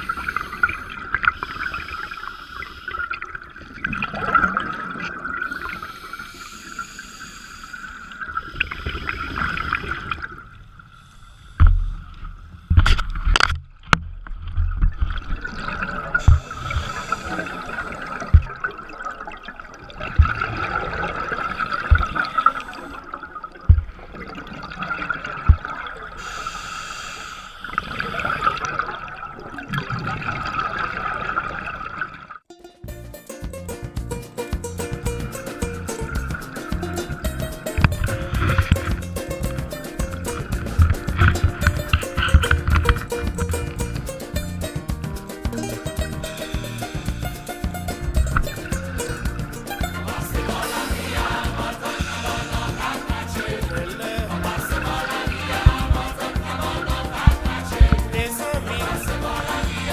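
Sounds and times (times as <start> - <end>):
underwater regulator bubbling: 0.0 - 10.6, 11.4 - 31.7, 34.6 - 59.9.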